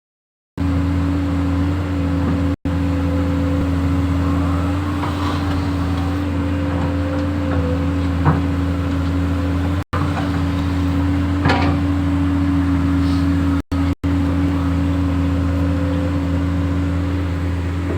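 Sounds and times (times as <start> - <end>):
excavator engine running: 0.6 - 17.9.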